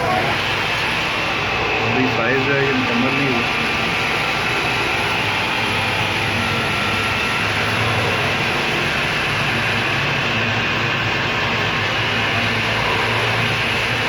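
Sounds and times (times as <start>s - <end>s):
metal lathe droning: 0.0s - 14.0s.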